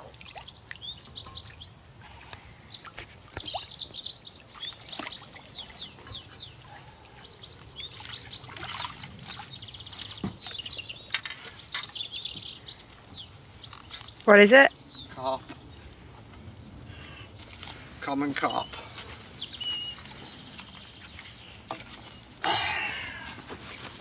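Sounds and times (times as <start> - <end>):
songbirds chirping and singing: 0.0 - 24.0
water splashing and trickling: 0.0 - 24.0.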